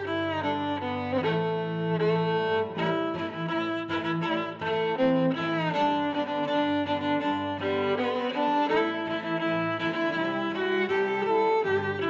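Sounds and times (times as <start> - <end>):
sustained low string notes: 0.0 - 12.0
violin melody: 0.0 - 12.0.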